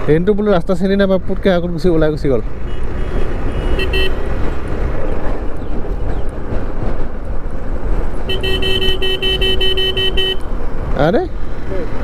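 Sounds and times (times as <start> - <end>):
motorcycle engine and road rumble: 0.0 - 12.0.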